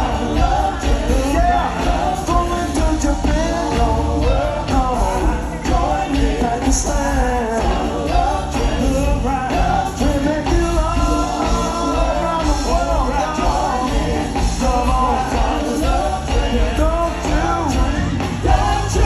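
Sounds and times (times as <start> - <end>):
live soul band playing: 0.0 - 19.0.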